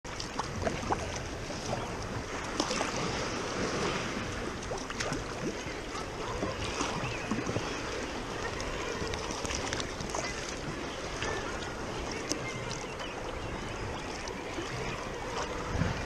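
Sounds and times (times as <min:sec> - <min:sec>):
waves lapping at hull: 0:00.0 - 0:16.0
paddle strokes splashing in water: 0:00.1 - 0:16.0
wind on microphone: 0:00.1 - 0:16.0.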